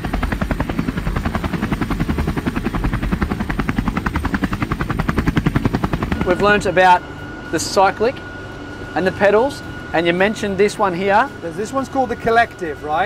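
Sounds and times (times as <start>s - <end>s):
constant low drone: 0.0s - 13.0s
helicopter rotor pulsing: 0.0s - 13.0s.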